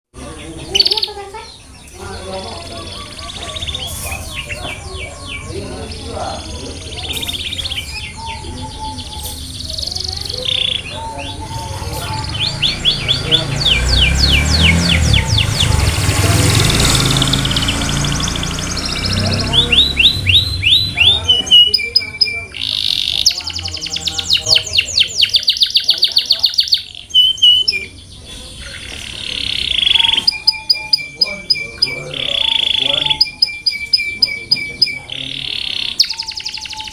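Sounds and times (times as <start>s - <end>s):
canary singing: 0.1s - 36.9s
buzzing bird trill: 0.2s - 36.9s.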